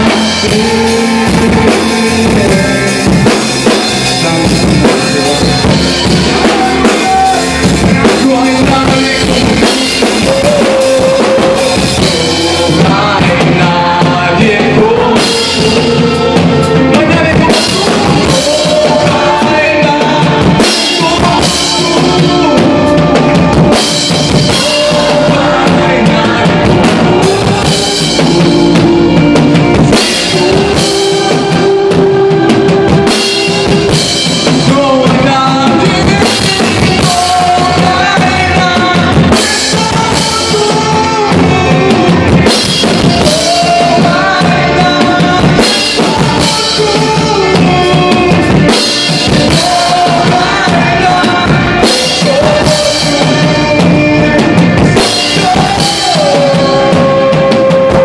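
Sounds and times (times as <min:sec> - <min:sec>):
drum kit beat: 0:00.0 - 0:58.0
electric guitar: 0:00.0 - 0:58.0
live band playing: 0:00.0 - 0:58.0
man singing into microphone: 0:00.0 - 0:58.0.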